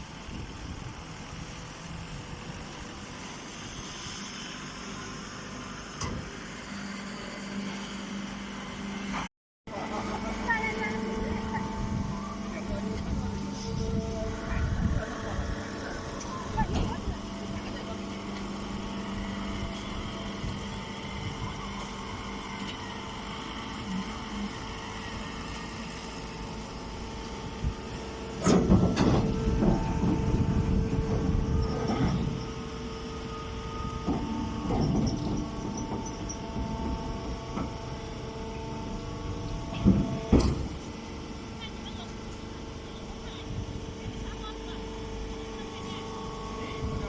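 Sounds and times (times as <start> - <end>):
machinery humming: 0.0 - 47.0.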